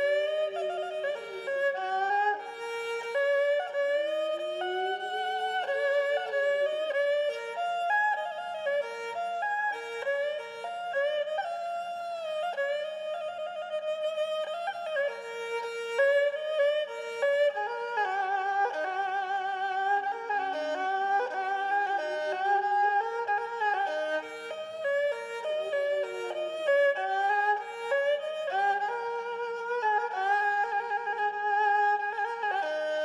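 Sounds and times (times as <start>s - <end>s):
bowed fiddle melody: 0.0s - 33.0s.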